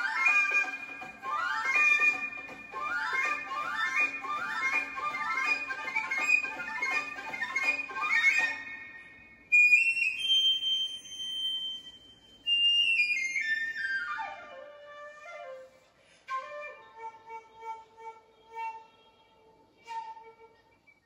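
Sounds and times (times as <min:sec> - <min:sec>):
flute-led dance music: 0:00.0 - 0:20.8.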